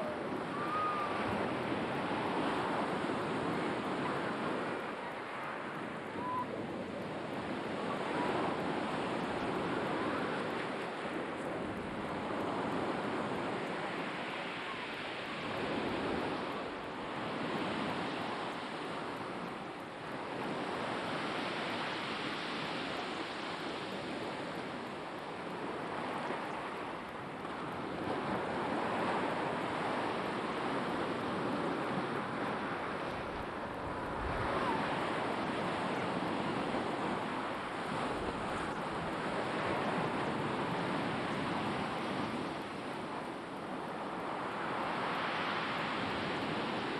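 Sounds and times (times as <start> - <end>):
surf breaking on shore: 0.0 - 46.9.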